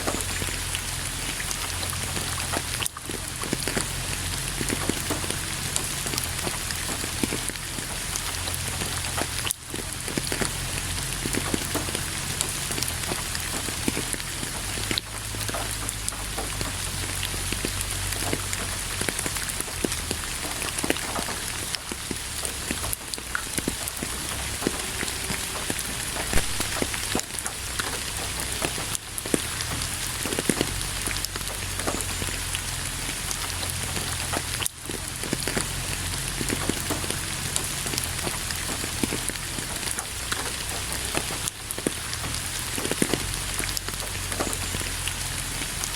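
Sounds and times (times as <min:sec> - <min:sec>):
low rumble: 0:00.0 - 0:45.9
raindrops pattering: 0:00.0 - 0:45.9
steady rain hiss: 0:00.0 - 0:45.9.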